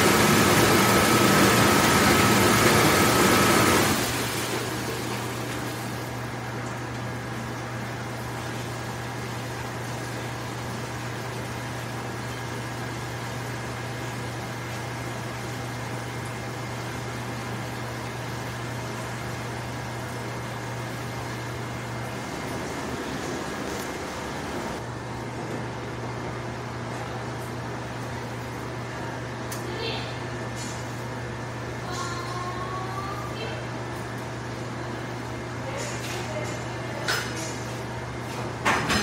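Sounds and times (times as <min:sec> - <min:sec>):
dishwashing machine running: 0:00.0 - 0:39.0.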